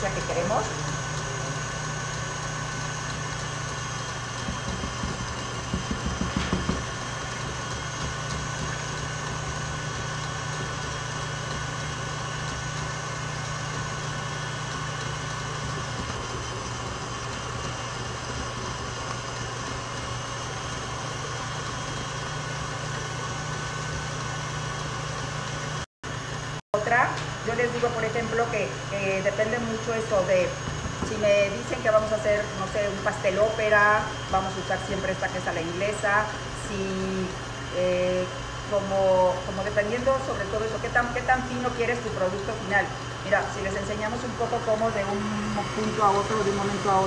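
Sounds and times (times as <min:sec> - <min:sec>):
stand mixer motor running: 0:00.0 - 0:47.0.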